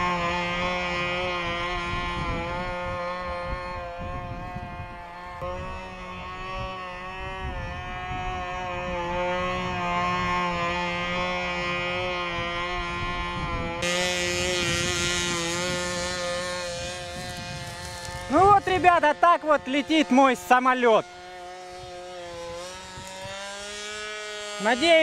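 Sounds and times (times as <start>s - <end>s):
wind on microphone: 0.0s - 20.5s, 21.4s - 24.5s
model airplane engine drone: 0.0s - 25.0s.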